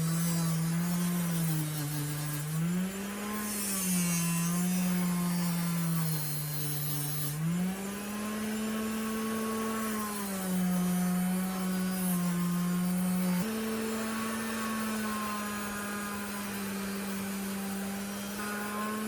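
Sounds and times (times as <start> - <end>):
bench grinder motor hum: 0.0 - 19.0
grinding wheel scrubbing metal: 0.0 - 19.0.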